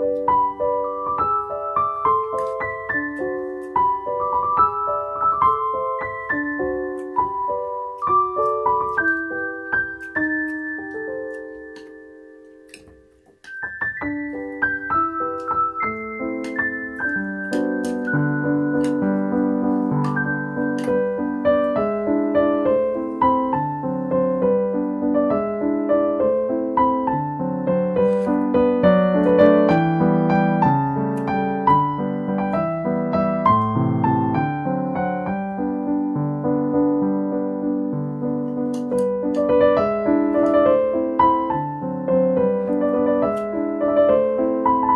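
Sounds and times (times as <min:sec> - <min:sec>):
piano music: 0:00.0 - 0:44.9.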